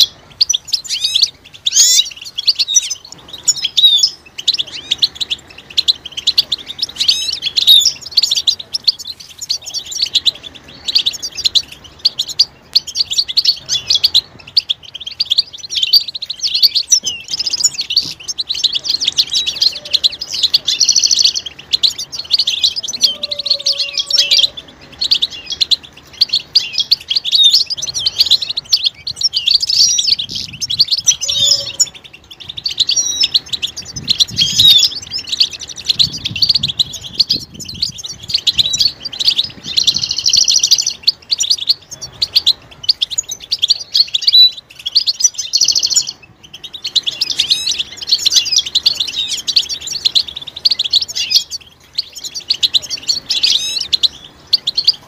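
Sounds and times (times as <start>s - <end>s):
finches twittering and trilling: 0.0s - 55.0s.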